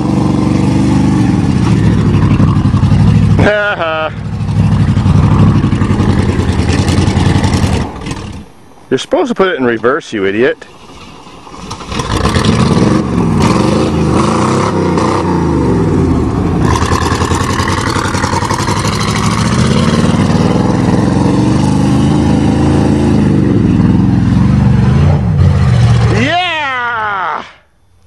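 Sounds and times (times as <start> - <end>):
pickup engine revving: 0.0 - 8.6, 11.5 - 26.3
rushing noise: 0.0 - 9.0, 10.5 - 26.7.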